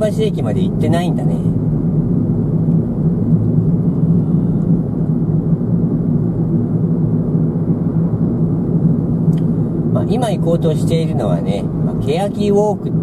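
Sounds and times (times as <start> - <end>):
car cabin hum while driving: 0.0 - 13.0.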